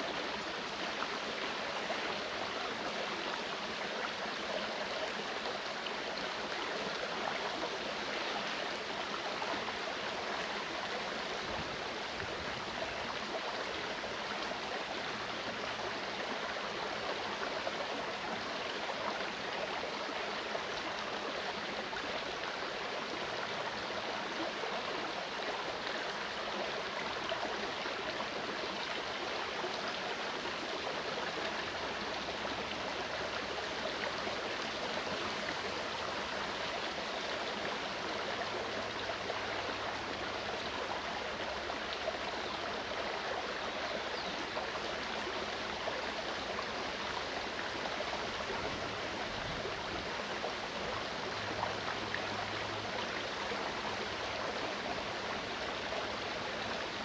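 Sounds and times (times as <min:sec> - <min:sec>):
mountain stream flowing: 0:00.0 - 0:57.0.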